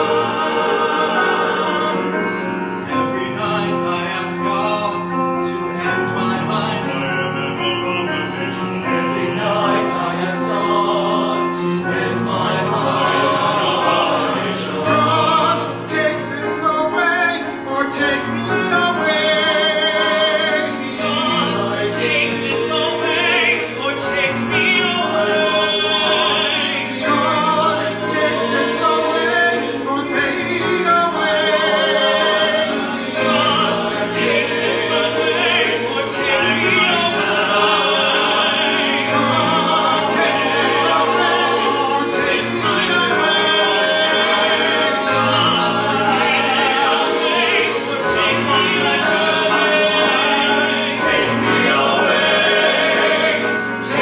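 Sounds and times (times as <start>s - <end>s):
men's chorus singing in harmony: 0.0s - 54.0s.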